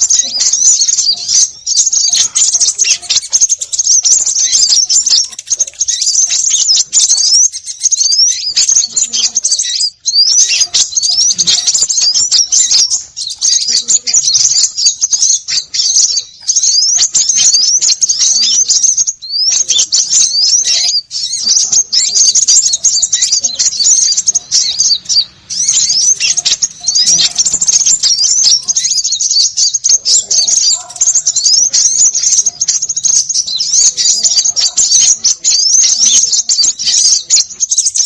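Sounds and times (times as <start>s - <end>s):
small birds chirping and twittering: 0.0s - 38.0s.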